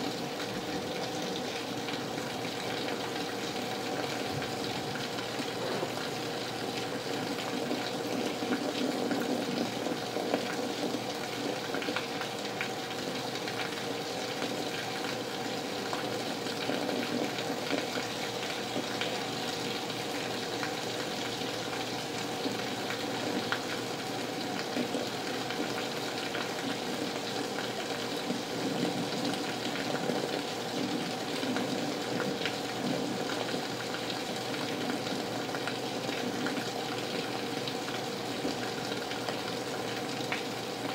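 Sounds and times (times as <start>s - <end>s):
heavy rain: 0.0s - 40.9s
water running from a gutter: 0.0s - 40.9s.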